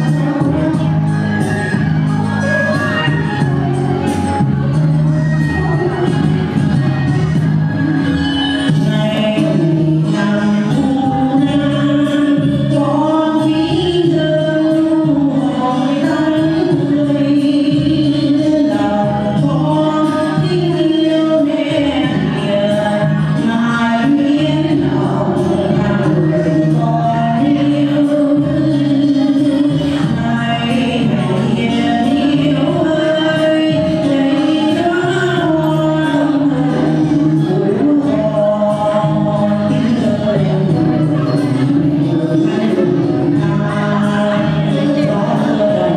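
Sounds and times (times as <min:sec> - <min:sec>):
musical accompaniment: 0:00.0 - 0:45.9
sustained singing: 0:00.0 - 0:45.9.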